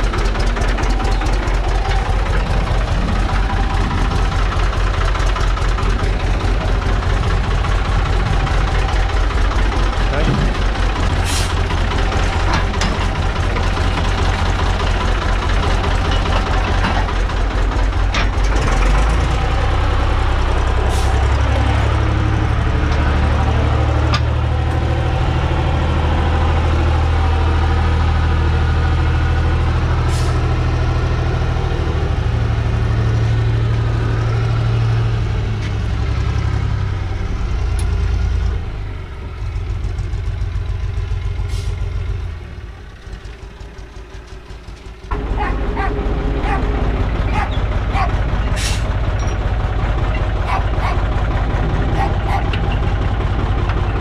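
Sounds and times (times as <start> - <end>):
diesel tractor engine: 0.0 - 54.0.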